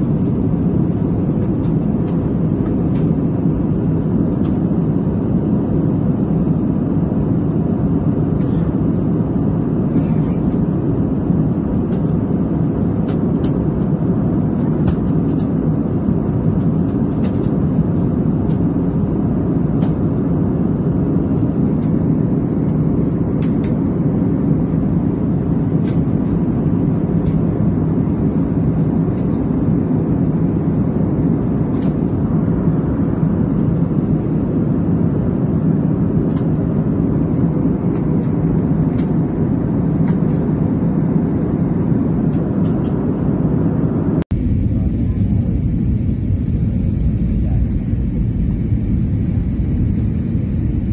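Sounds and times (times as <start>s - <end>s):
airliner cabin jet engine drone: 0.0s - 50.9s.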